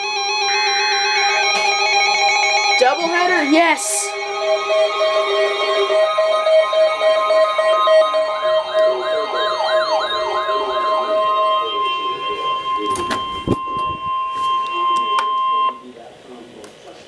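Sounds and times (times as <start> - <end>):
electronic siren wailing: 0.0 - 15.9
held electronic chord: 0.0 - 15.9
steady emergency alert tone: 0.0 - 16.1.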